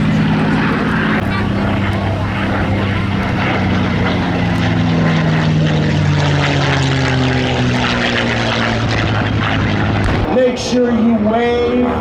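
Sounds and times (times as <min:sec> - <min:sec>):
propeller aircraft passing: 0:00.0 - 0:12.0.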